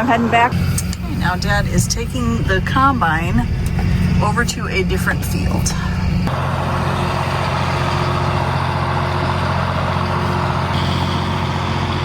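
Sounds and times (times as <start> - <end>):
heavy vehicle engine humming: 0.0 - 12.0.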